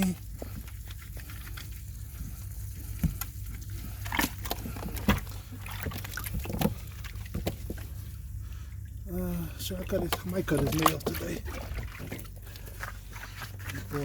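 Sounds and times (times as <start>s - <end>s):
steady low hum: 0.0s - 14.0s
water splashing: 0.0s - 14.0s.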